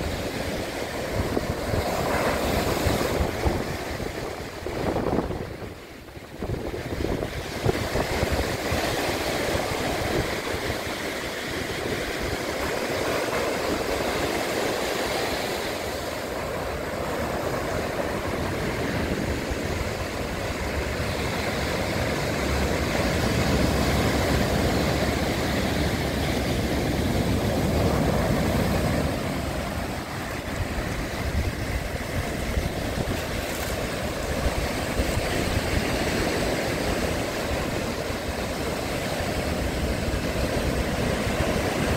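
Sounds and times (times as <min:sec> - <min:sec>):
surf breaking on pebble beach: 0:00.0 - 0:41.9
wind rumbling on microphone: 0:00.0 - 0:41.9.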